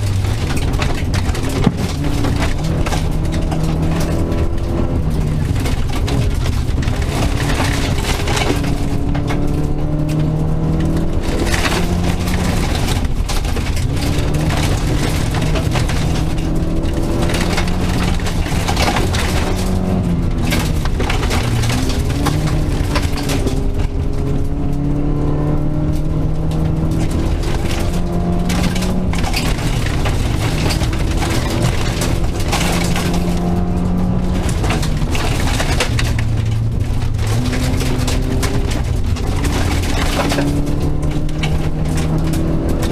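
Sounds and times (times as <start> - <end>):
gravel rattling against car: 0.0 - 42.9
rally car engine revving: 0.0 - 42.9.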